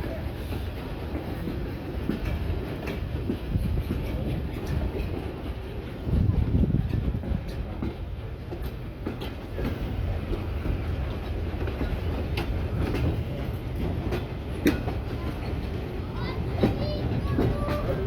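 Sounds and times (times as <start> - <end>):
train rumbling along track: 0.0 - 18.0.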